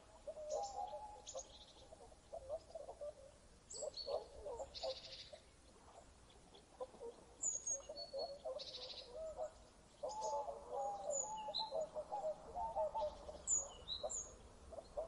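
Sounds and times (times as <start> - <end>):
lower wavering bird calls: 0.0 - 15.0.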